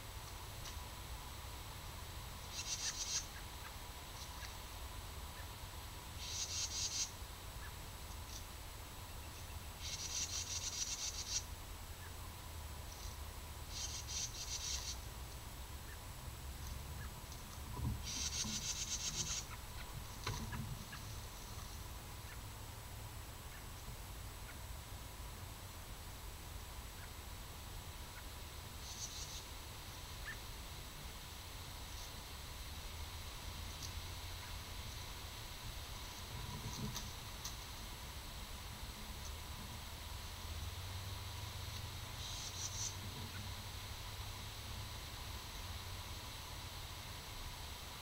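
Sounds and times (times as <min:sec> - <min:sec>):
faint low hum: 0:00.0 - 0:48.0
low steady rumble: 0:00.0 - 0:48.0.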